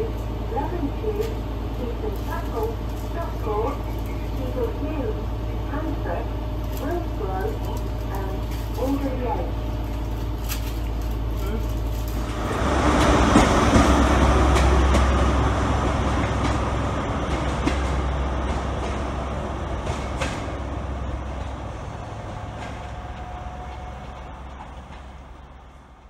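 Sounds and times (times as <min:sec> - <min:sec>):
diesel train engine running: 0:00.0 - 0:26.0
train wheels rumbling: 0:00.0 - 0:26.0.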